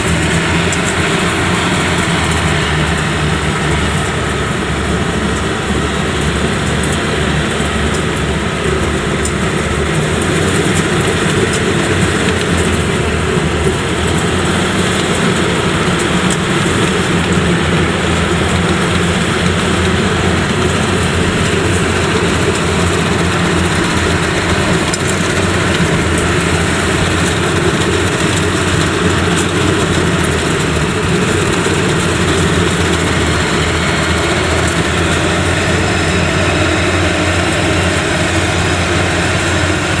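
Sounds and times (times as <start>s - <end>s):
diesel engine running: 0.0s - 40.0s
machinery clattering: 0.0s - 40.0s.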